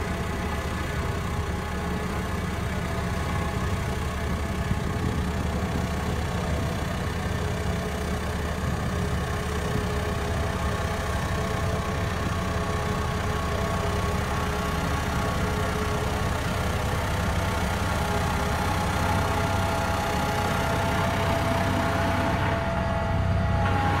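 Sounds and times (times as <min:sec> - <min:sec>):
road roller diesel engine running: 0:00.0 - 0:24.0.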